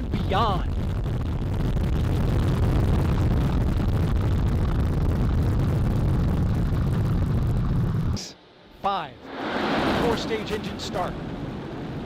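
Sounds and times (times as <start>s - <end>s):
rocket launch rumble: 0.0s - 8.2s, 9.2s - 12.0s.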